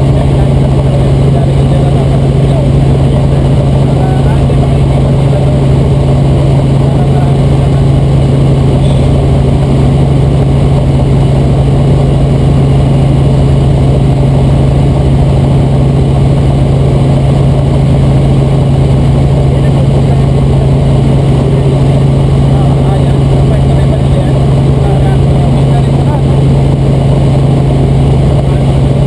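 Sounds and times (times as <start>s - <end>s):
helicopter engine and rotor drone: 0.0s - 29.0s.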